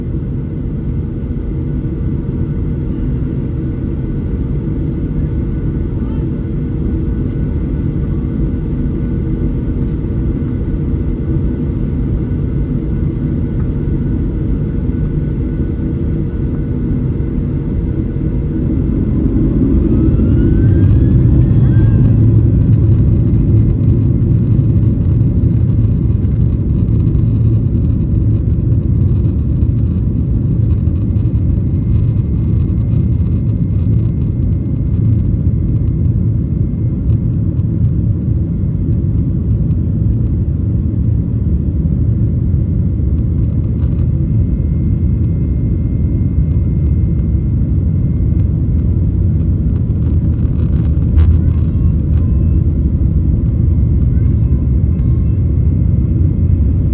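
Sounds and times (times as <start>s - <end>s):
faint thin engine whine: 0.0s - 56.9s
jet engines rumbling at takeoff: 0.0s - 56.9s.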